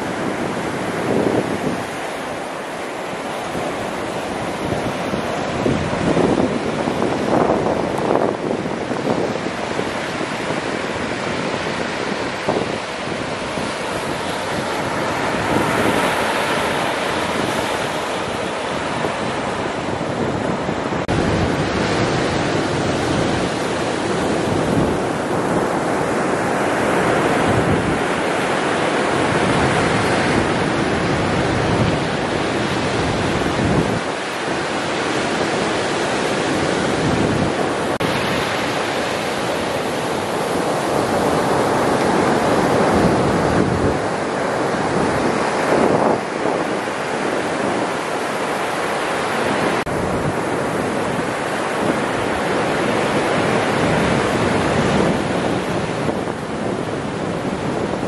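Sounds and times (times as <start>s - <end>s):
ocean surf breaking on beach: 0.0s - 58.0s.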